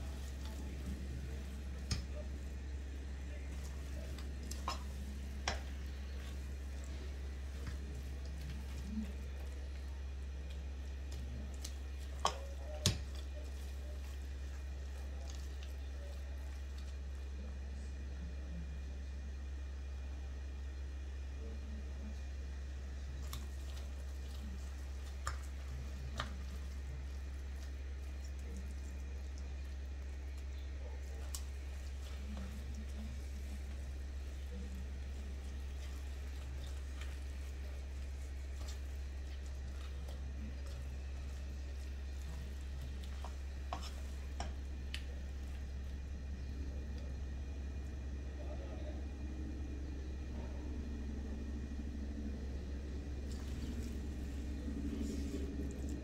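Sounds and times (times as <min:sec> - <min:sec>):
spatula mashing pumpkin in pan: 0:00.0 - 0:20.5, 0:21.2 - 0:56.0
steady low hum: 0:00.0 - 0:56.0.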